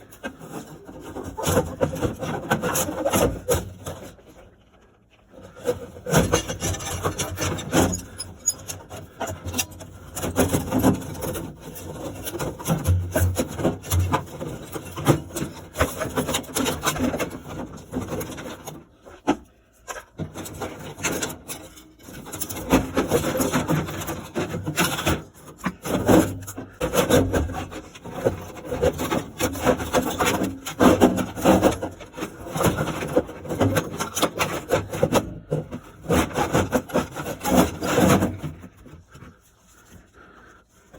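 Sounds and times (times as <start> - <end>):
rubbing and scraping: 0.0 - 40.9.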